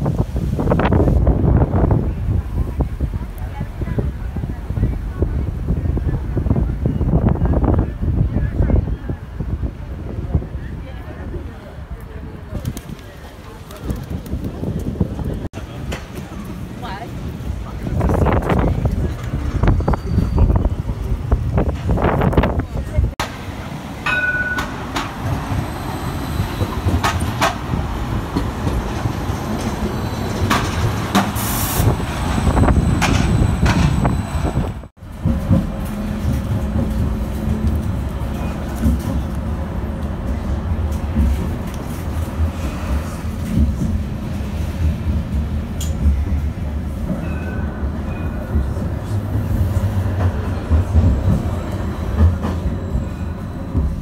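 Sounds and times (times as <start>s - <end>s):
tram rumble: 0.0s - 54.0s.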